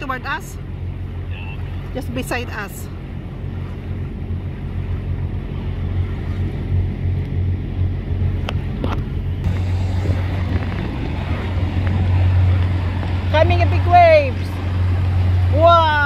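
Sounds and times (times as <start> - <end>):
boat engine droning: 0.0 - 16.0
water noise: 0.0 - 16.0
wind: 0.0 - 16.0.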